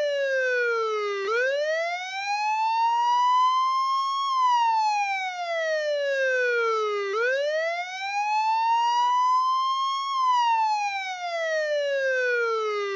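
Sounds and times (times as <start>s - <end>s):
police siren wailing: 0.0s - 12.9s.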